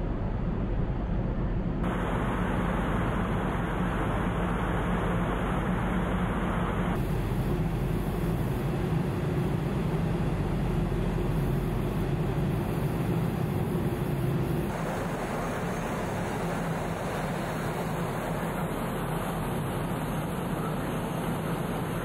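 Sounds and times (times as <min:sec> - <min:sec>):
low hum of ship machinery: 0:00.0 - 0:22.0.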